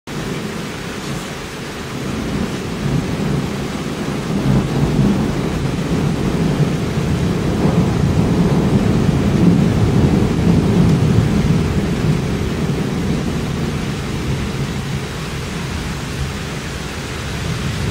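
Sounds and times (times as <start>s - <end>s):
rain hissing: 0.1s - 17.9s
deep thunder rumble: 1.9s - 17.9s.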